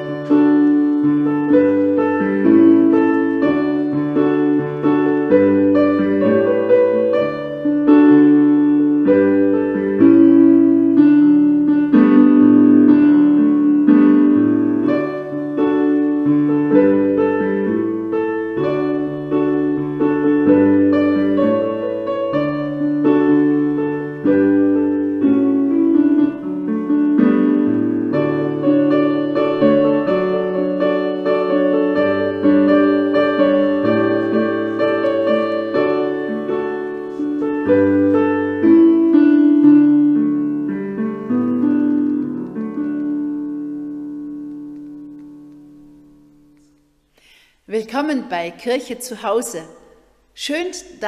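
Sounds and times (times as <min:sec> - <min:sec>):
piano chords: 0:00.0 - 0:51.0.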